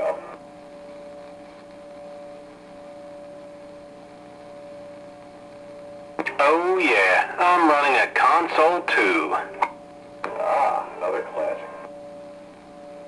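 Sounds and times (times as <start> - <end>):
steady hum-like tone: 0.0 - 13.0.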